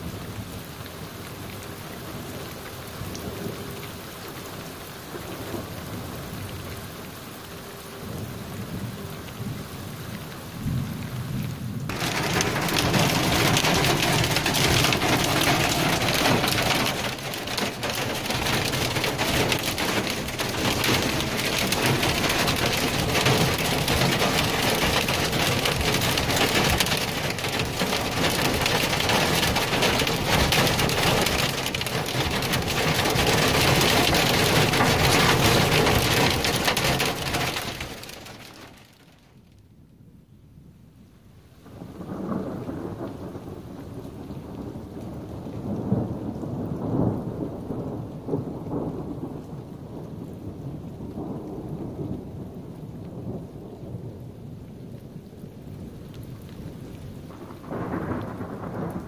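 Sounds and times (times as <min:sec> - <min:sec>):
heavy rain drumming on vehicle: 0:00.0 - 0:39.3, 0:41.7 - 0:59.0
low rumble of thunder: 0:08.0 - 0:38.8, 0:41.6 - 0:59.0.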